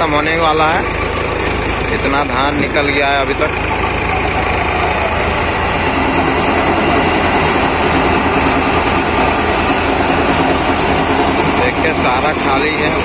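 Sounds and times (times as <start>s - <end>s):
thresher machine running: 0.0s - 13.0s.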